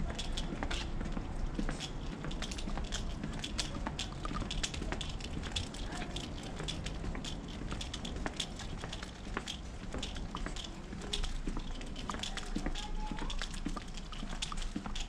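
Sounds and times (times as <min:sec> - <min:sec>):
walking footsteps: 0:00.0 - 0:15.0.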